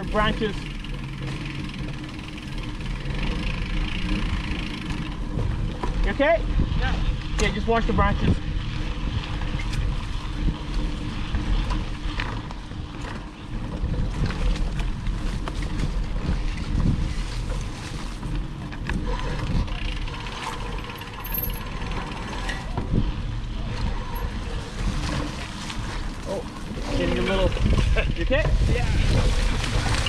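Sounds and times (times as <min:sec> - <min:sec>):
bike rattling and clicking: 0:00.0 - 0:30.0
low rumble of riding: 0:00.0 - 0:30.0.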